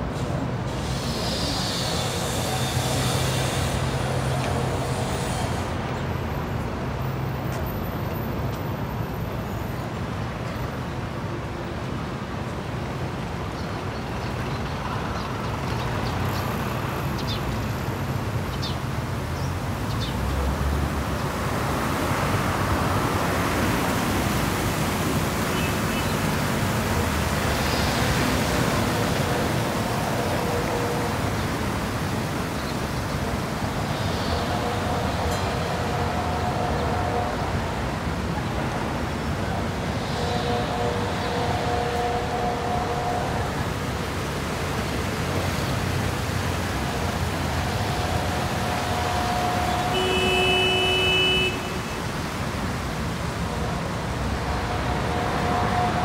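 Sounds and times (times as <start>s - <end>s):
road traffic noise: 0.0s - 56.0s.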